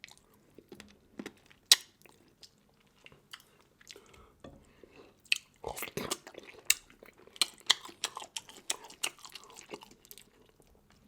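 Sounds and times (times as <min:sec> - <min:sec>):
chewing crunchy seafood: 0:00.0 - 0:04.3, 0:05.0 - 0:11.0.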